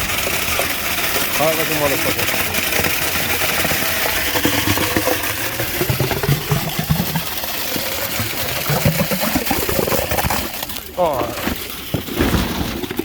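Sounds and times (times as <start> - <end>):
pump truck engine running: 0.0 - 12.0.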